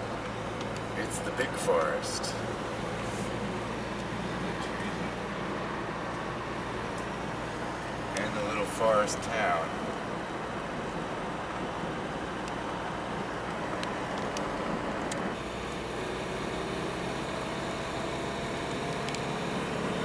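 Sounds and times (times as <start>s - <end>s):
car engine hum: 0.0s - 20.0s.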